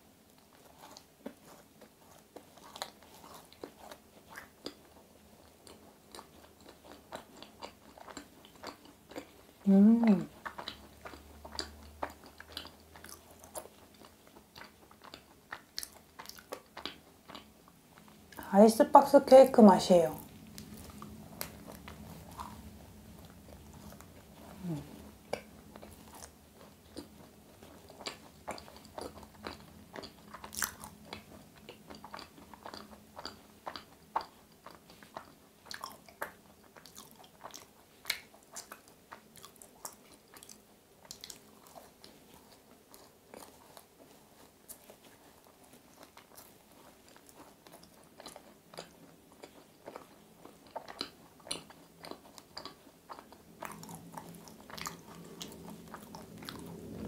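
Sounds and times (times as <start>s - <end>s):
biting and chewing: 0.3s - 18.4s, 20.2s - 57.0s.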